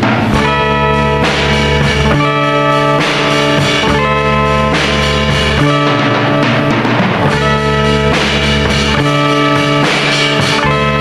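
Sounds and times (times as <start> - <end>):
bass guitar line: 0.0 - 11.0
guitars playing held chords: 0.0 - 11.0.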